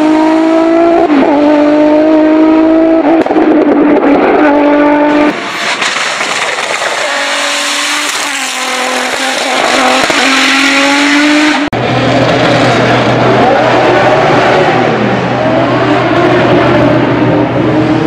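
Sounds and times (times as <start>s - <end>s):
racing engine at high revs: 0.0s - 18.0s.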